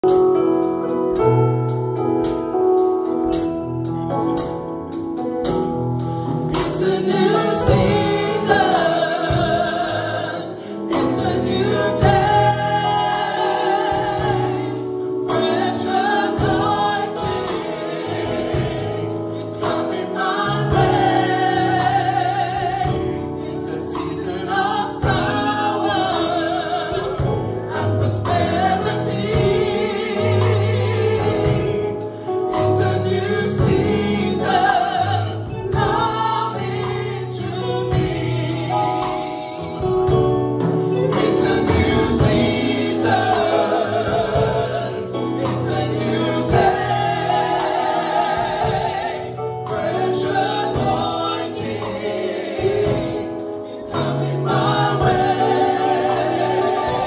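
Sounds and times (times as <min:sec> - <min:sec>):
drum kit: 0:00.0 - 0:57.0
keyboard: 0:00.0 - 0:57.0
group singing in harmony: 0:02.2 - 0:57.0.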